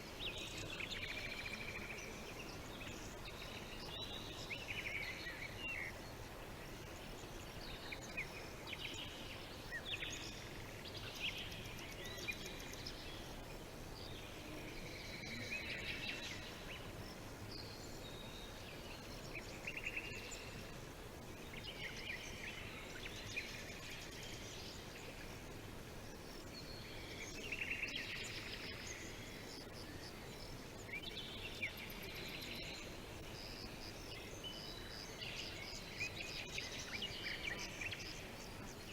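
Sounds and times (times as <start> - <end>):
outdoor ambience hiss: 0.0 - 38.9
songbirds chirping and trilling: 0.0 - 38.9.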